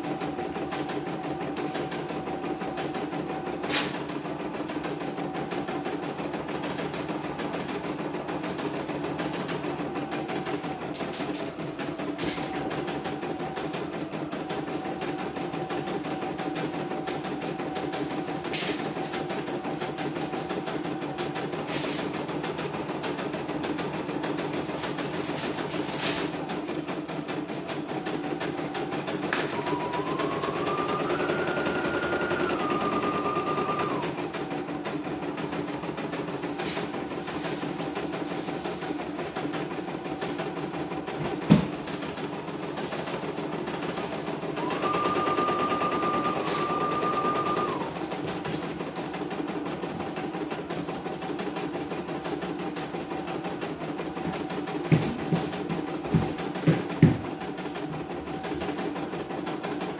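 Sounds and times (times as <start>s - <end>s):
embroidery machine stitching: 0.0s - 59.9s.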